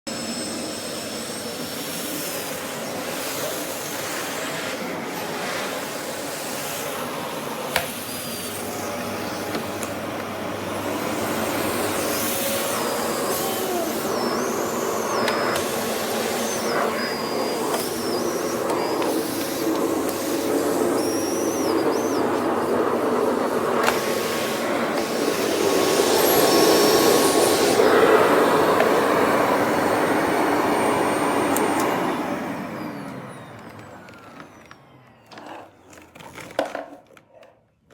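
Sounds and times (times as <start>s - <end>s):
vacuum cleaner running: 0.0s - 37.2s.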